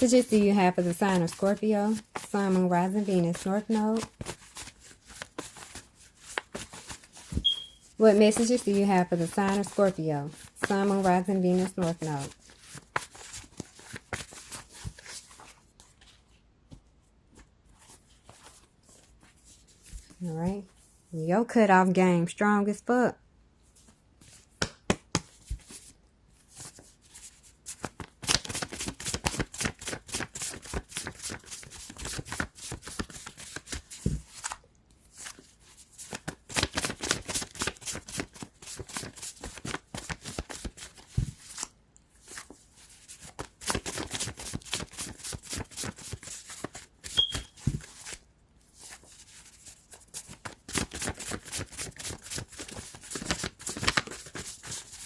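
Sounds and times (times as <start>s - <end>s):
cards shuffling: 0.0s - 16.2s, 26.5s - 48.2s, 48.8s - 55.0s.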